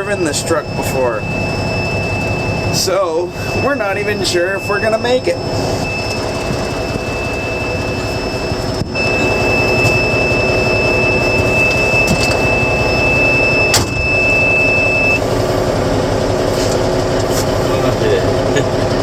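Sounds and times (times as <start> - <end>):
high-pitched whine: 0.0 - 16.4
road noise: 0.0 - 19.0
truck diesel engine: 0.0 - 19.0.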